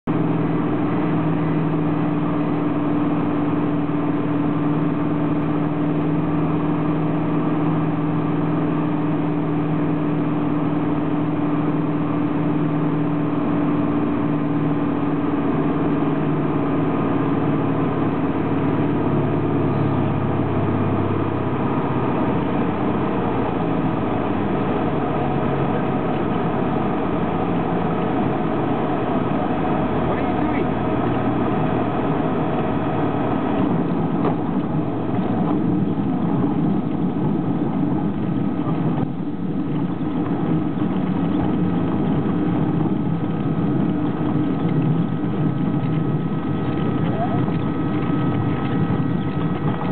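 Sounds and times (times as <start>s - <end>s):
propeller engine droning: 0.0s - 49.9s
wheels rumbling on dirt airstrip: 0.0s - 49.9s.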